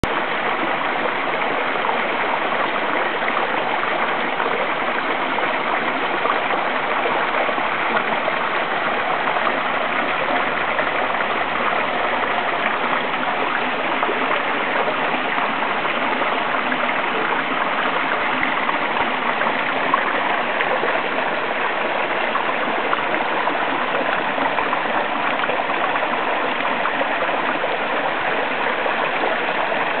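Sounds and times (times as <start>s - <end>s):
water cascading over rocks: 0.0s - 30.0s.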